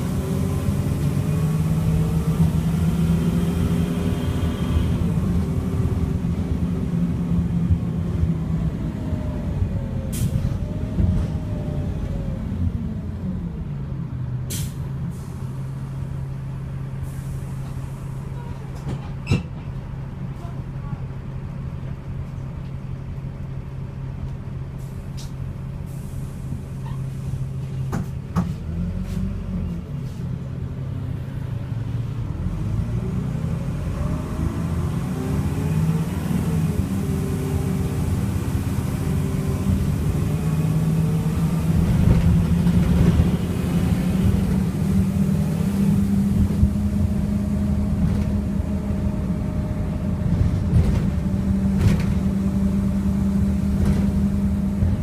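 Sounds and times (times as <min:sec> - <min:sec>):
bus diesel engine revving: 0:00.0 - 0:18.9, 0:24.6 - 0:55.0.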